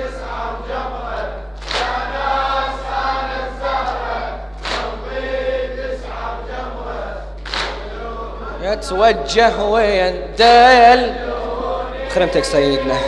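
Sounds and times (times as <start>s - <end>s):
congregation chanting in unison: 0.0s - 13.0s.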